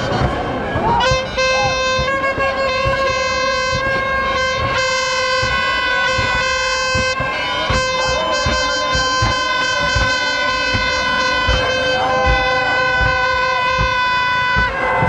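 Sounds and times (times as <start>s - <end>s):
long horn blast: 0.0s - 15.0s
noisy crowd: 0.0s - 15.0s.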